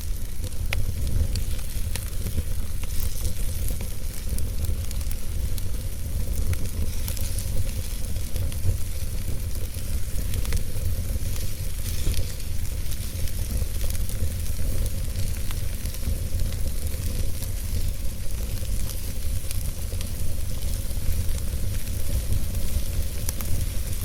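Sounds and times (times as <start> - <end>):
burning logs crackling and popping: 0.0 - 24.0
fire burning in a fireplace: 0.0 - 24.0.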